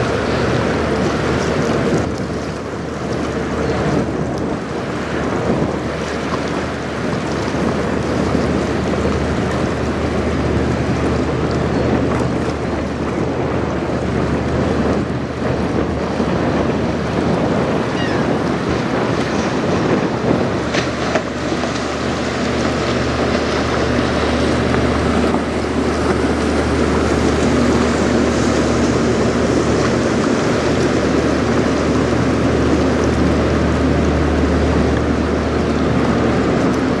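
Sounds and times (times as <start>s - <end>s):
choppy river water: 0.0s - 37.0s
ship engine rumble: 0.0s - 37.0s
wind buffeting microphone: 0.0s - 37.0s.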